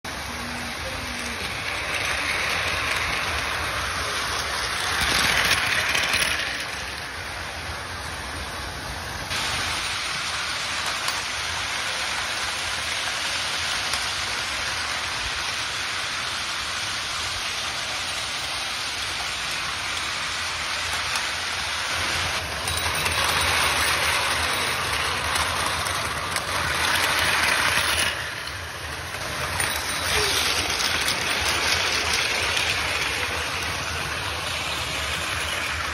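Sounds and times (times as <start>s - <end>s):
toy trains whirring rattle: 0.0s - 35.9s.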